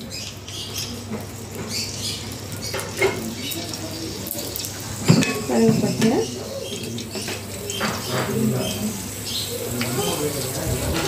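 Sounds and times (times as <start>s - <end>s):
frying in hot oil sizzle: 0.0s - 11.0s.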